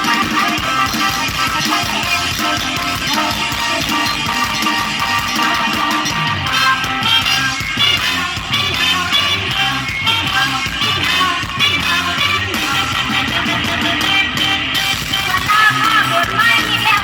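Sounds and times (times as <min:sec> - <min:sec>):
live band music over loudspeakers: 0:00.0 - 0:17.0.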